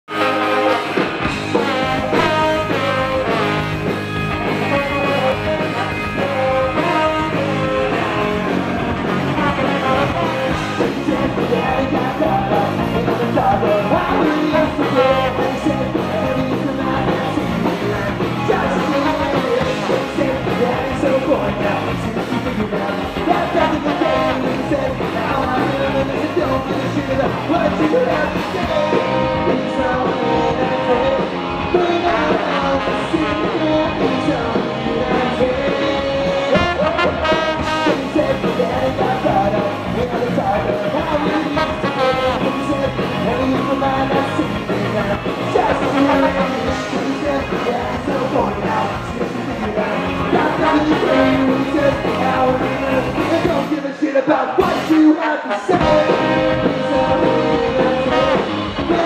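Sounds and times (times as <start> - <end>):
punk rock band playing: 0.0 - 59.0
lead singer singing: 0.1 - 59.0.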